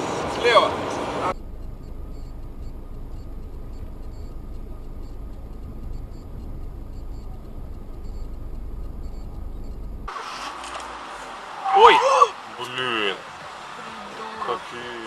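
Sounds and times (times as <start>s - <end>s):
car engine and road rumble: 0.0s - 15.0s
faint steady whine: 0.1s - 15.0s.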